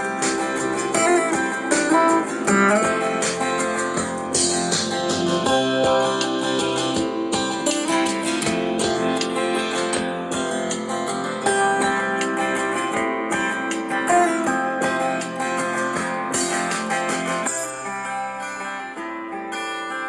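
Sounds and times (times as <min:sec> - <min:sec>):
acoustic guitar strumming through speaker: 0:00.0 - 0:20.0.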